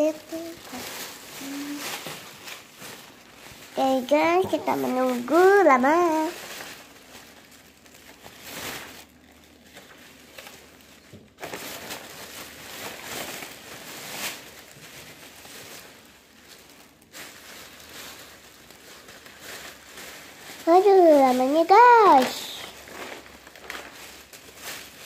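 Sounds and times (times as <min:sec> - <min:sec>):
plastic bags rustling: 0:00.0 - 0:25.0.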